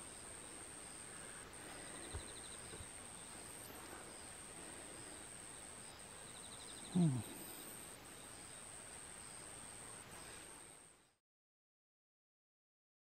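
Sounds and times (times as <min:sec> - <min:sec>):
insects buzzing: 0:00.0 - 0:11.2.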